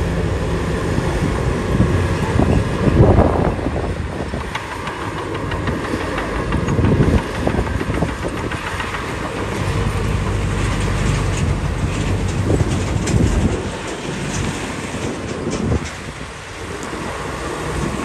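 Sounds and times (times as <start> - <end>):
bulldozer diesel engine running: 0.0 - 18.0
steel tracks clanking: 0.0 - 18.0.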